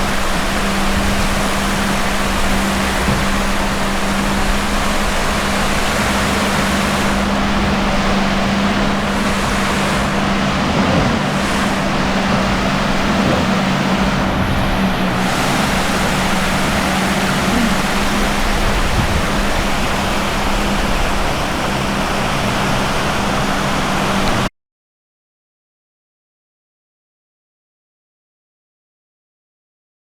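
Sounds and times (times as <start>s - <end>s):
constant low hum: 0.0s - 24.5s
surf rushing: 0.0s - 24.5s
wind: 0.0s - 24.5s.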